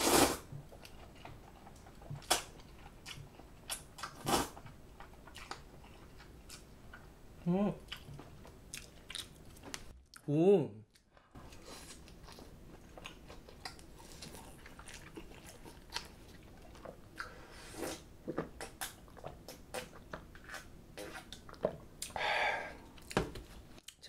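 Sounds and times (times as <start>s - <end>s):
wet chewing: 0.6s - 7.1s, 7.8s - 10.2s, 10.9s - 22.2s.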